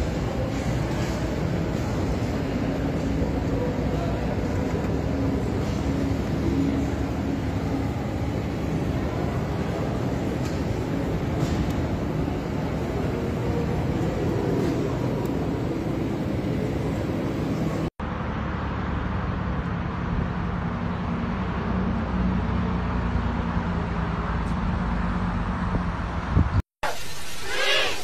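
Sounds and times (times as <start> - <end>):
motor vehicle rumbling: 0.0 - 26.6.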